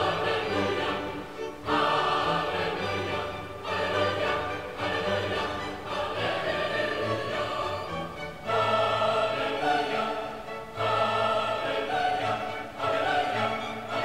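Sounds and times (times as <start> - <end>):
choral and orchestral music: 0.0 - 14.0.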